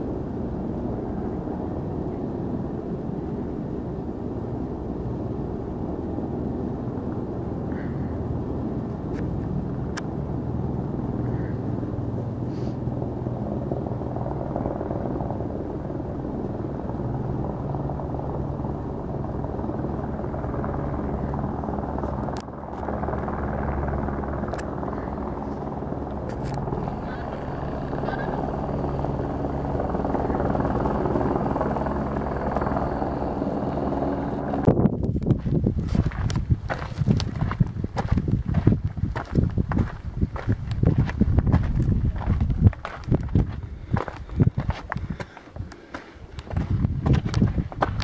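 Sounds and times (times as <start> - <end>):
helicopter rotor and engine hum: 0.0 - 48.0.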